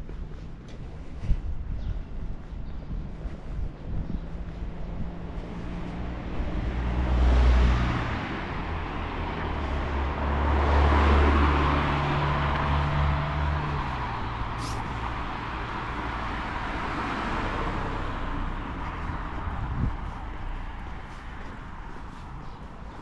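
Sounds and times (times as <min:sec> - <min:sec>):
low engine rumble: 0:00.0 - 0:23.0
vehicles passing by: 0:00.0 - 0:23.0.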